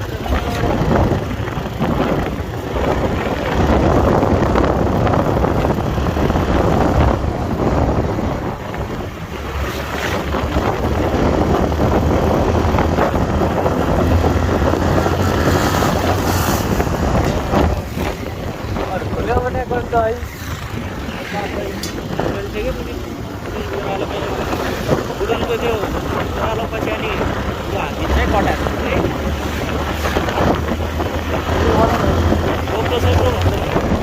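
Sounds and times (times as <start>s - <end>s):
motorcycle engine drone: 0.0s - 34.0s
wind buffeting microphone: 0.0s - 34.0s.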